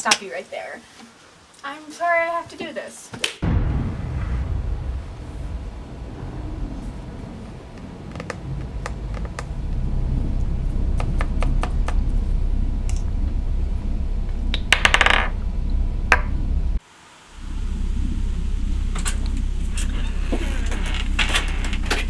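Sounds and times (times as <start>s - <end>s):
steady low hum: 3.4s - 22.0s.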